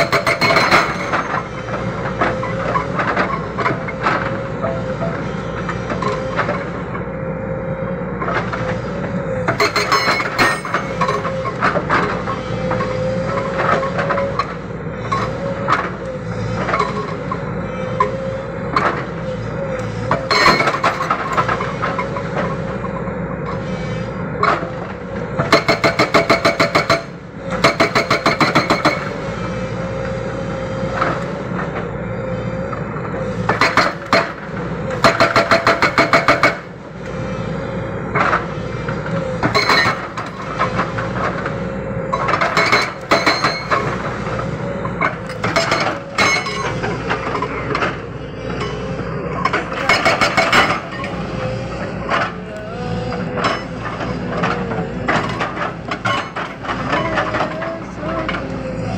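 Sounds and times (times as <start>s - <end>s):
hydraulic rock breaker hammering: 0.0s - 7.1s, 8.2s - 29.5s, 33.0s - 36.8s, 38.0s - 58.9s
diesel engine running: 0.0s - 58.9s.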